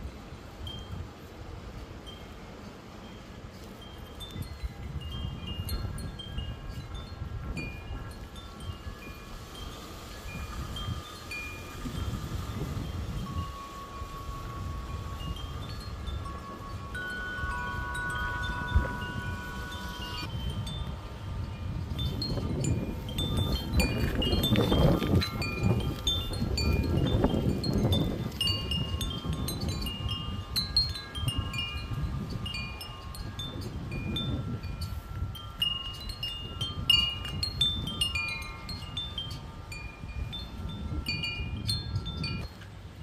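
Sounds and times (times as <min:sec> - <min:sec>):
wind rumbling on microphone: 0:00.0 - 0:43.0
wind chimes ringing: 0:00.6 - 0:42.9.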